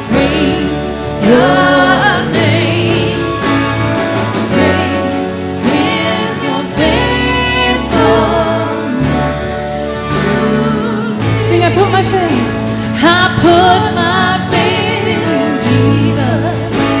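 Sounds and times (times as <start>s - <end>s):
band and singers performing worship song: 0.0s - 17.0s
low bass notes: 0.0s - 17.0s.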